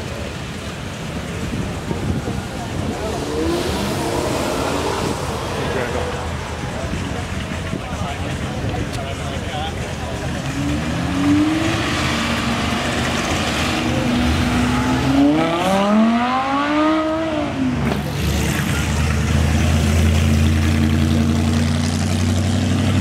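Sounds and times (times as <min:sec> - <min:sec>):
deep engine rumble: 0:00.0 - 0:23.0
sports car engine revving: 0:00.4 - 0:23.0.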